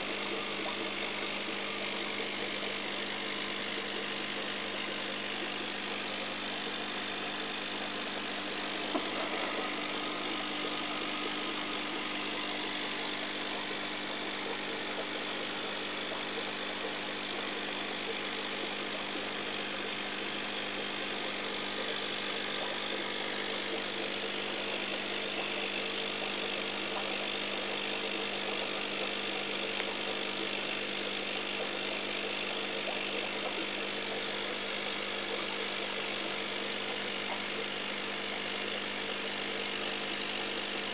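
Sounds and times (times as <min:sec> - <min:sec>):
aquarium pump hum: 0:00.0 - 0:40.9.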